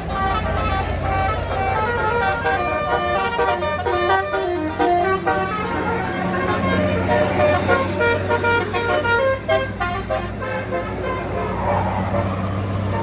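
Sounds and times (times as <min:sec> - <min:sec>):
bus engine rumble: 0:00.0 - 0:13.0
bus horn playing melody: 0:00.0 - 0:13.0.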